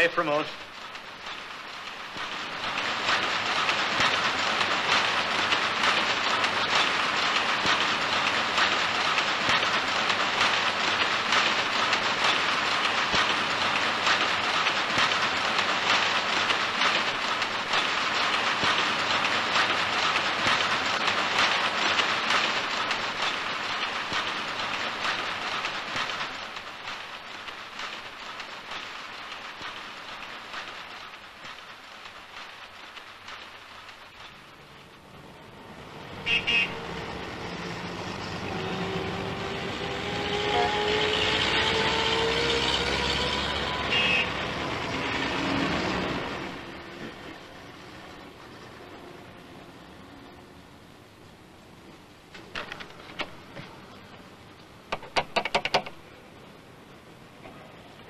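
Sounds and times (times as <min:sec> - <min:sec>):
power looms clattering: 0:00.0 - 0:48.8.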